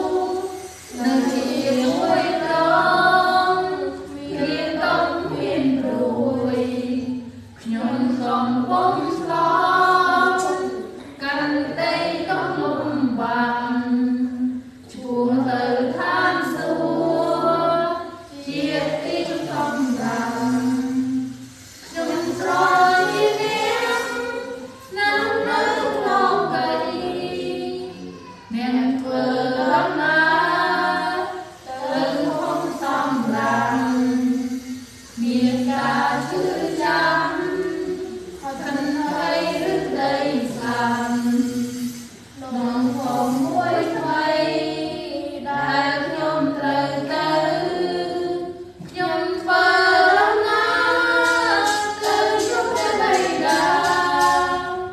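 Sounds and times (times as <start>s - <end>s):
group singing a hymn unaccompanied: 0.0s - 54.9s.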